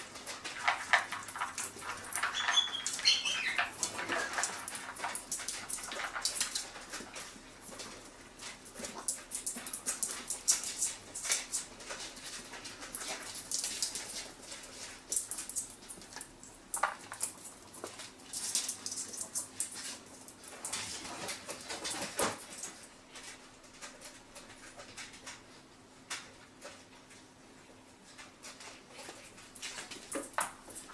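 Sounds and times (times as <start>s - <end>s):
puppy claws clicking on mat: 0.0s - 27.2s, 28.1s - 30.9s.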